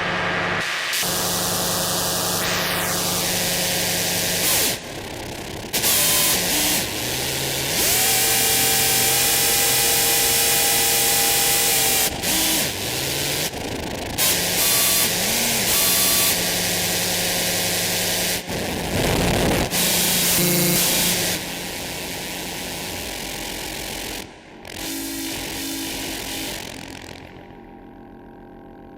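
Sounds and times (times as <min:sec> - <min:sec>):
noisy synthesizer drone tones: 0:00.0 - 0:28.9.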